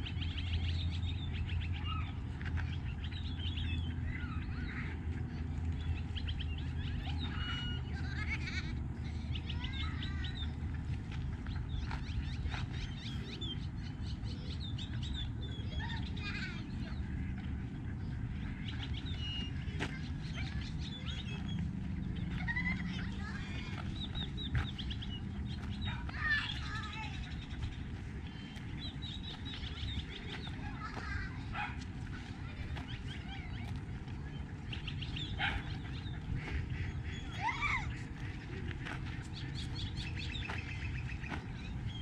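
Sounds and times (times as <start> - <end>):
many birds chirping and trilling: 0.0 - 42.0.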